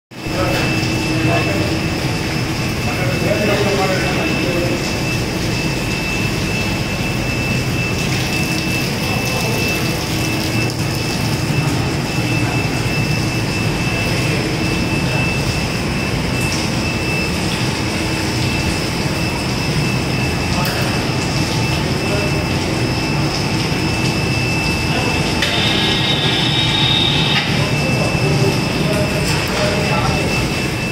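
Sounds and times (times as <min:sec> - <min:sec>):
constant high whine: 0:00.1 - 0:30.9
processing machinery drone: 0:00.1 - 0:30.9
water frothing in a tank: 0:00.2 - 0:30.9.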